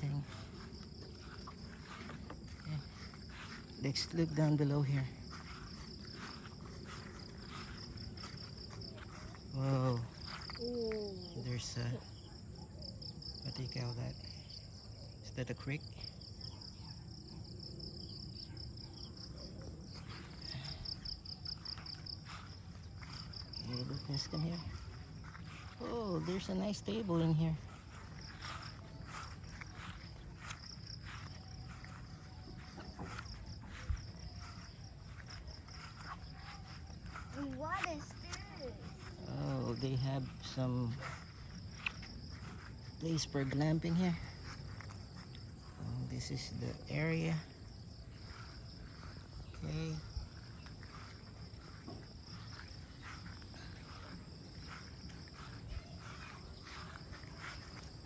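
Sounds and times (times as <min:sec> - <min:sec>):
soft footsteps: 0:00.0 - 0:10.6, 0:17.2 - 0:58.0
crickets chirping: 0:00.0 - 0:58.0
high-pitched insect chorus: 0:00.0 - 0:58.0.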